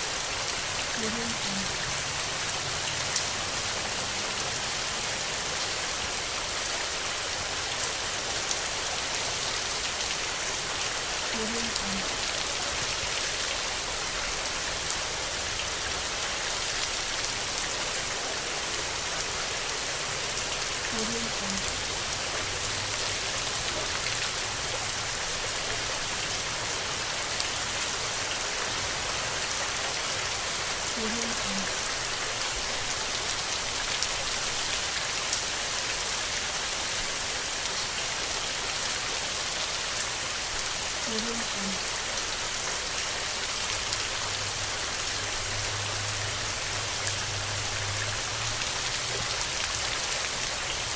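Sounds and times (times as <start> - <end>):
steady rain hiss: 0.0 - 50.9.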